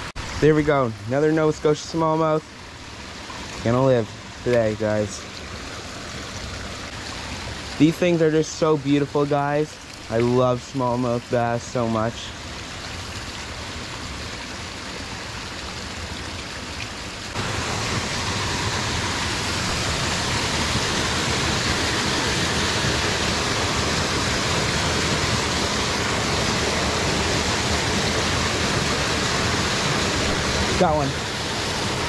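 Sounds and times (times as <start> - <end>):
flowing stream water: 0.0 - 32.0.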